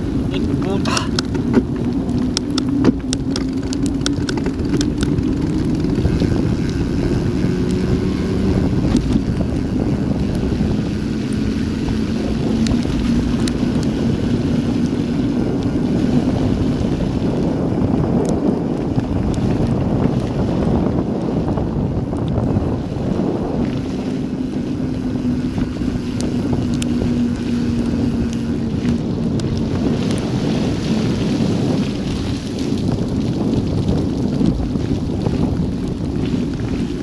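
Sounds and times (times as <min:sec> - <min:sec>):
wind rushing on microphone: 0:00.0 - 0:37.0.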